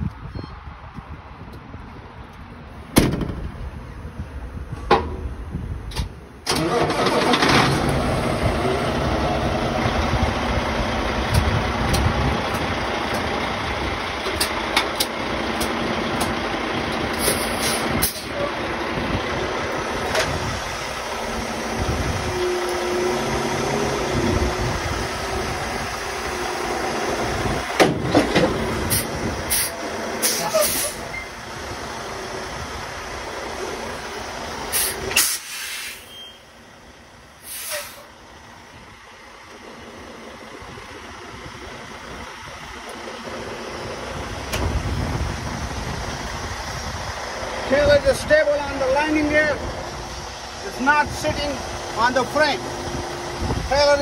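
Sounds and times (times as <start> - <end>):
diesel truck engine running: 0.9 - 54.0.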